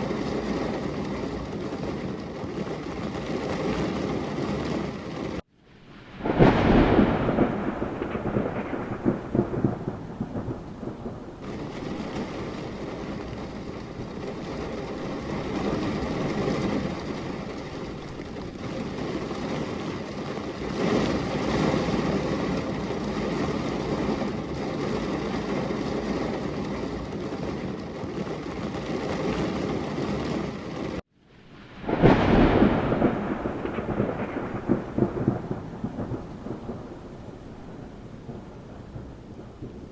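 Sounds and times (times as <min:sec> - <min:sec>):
steady rain: 0:00.0 - 0:39.9
thunder clap and rumble: 0:00.0 - 0:39.9.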